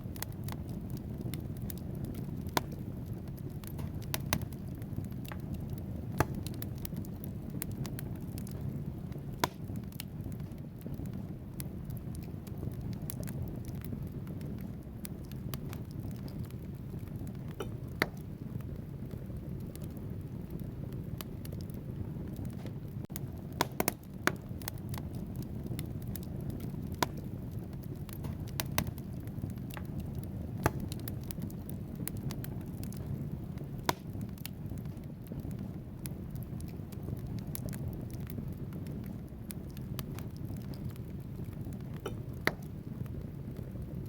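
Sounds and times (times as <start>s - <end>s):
fire flames rumbling: 0.0s - 44.0s
logs crackling and popping: 0.0s - 44.0s.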